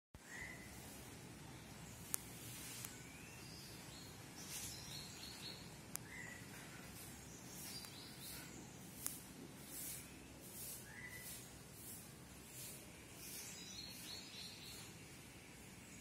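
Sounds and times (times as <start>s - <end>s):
birds chirping: 0.2s - 16.0s
low background noise: 0.2s - 16.0s.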